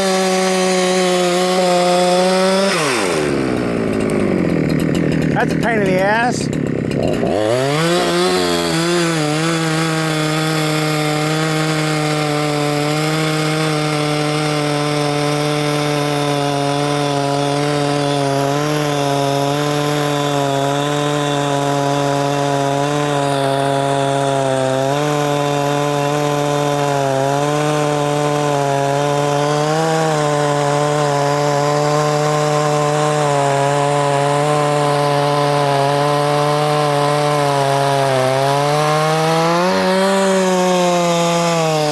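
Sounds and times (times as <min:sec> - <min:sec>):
chainsaw running at high revs: 0:00.0 - 0:41.9.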